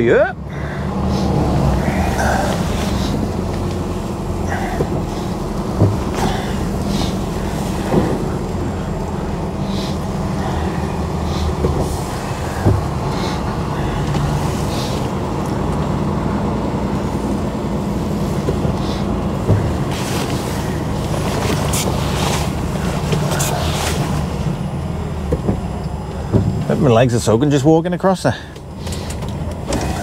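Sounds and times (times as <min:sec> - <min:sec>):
diesel engine running low: 0:00.0 - 0:30.0.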